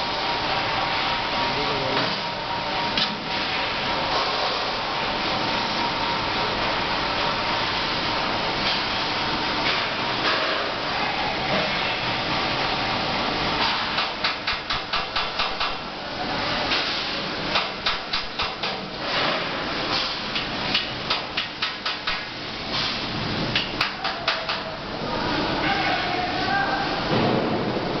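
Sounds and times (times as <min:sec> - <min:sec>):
steady workshop hum: 0:00.0 - 0:28.0.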